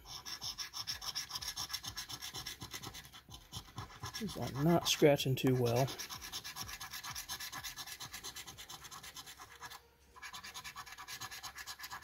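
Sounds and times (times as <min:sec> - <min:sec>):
coin scratching lottery ticket: 0:00.0 - 0:12.0.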